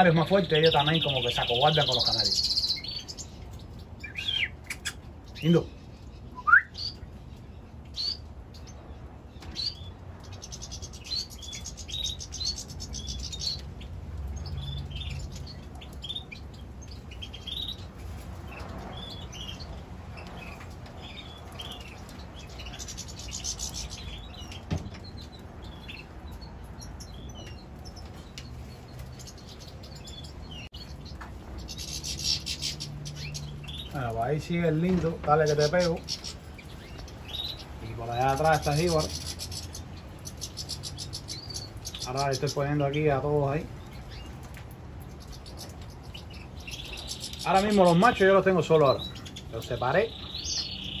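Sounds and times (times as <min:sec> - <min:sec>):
finches chirping: 0:00.0 - 0:44.4, 0:45.0 - 0:51.0.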